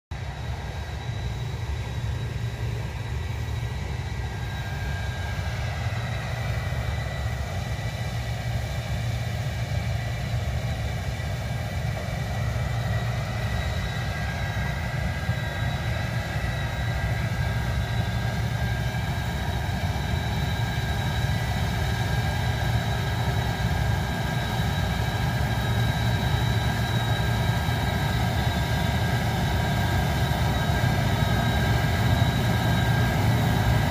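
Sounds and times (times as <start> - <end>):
heavy engine drone: 0.1 - 33.9.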